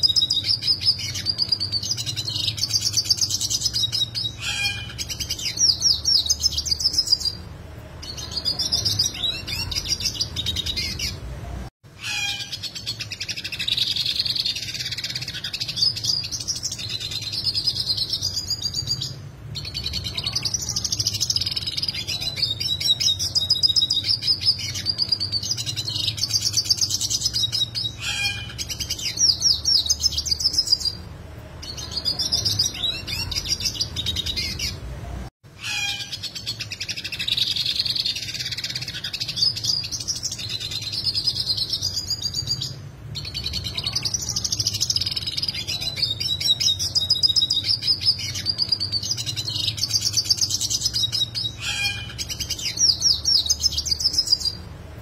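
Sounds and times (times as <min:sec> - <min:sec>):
bird singing twittering song: 0:00.0 - 0:11.3, 0:12.0 - 0:34.8, 0:35.6 - 0:54.7.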